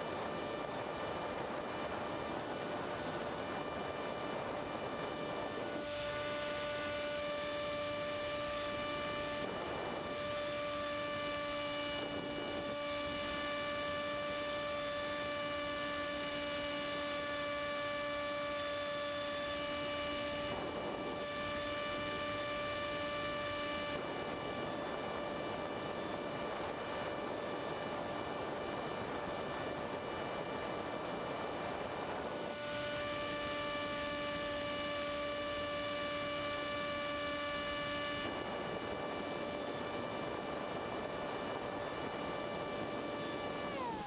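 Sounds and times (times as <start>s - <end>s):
electric motor and propeller whine: 0.0s - 44.0s.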